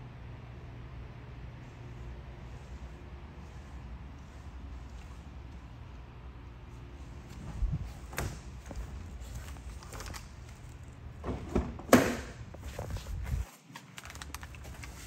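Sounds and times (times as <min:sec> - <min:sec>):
low steady rumble: 0:00.0 - 0:13.5.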